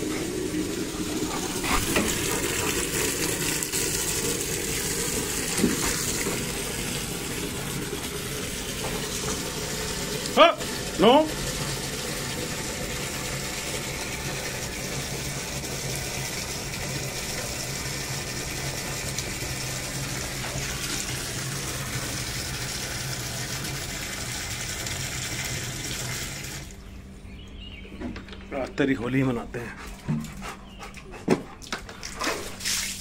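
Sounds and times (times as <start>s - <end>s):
running water rushing: 0.0s - 26.8s.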